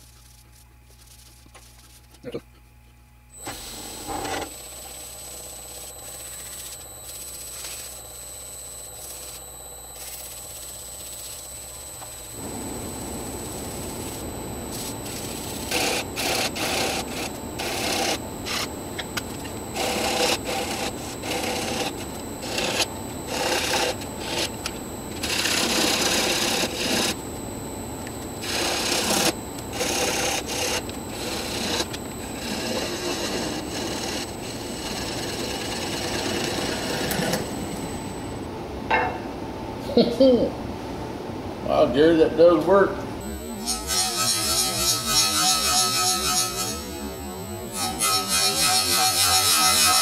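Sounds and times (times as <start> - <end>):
wood lathe whining: 3.4 - 38.5, 43.2 - 50.0.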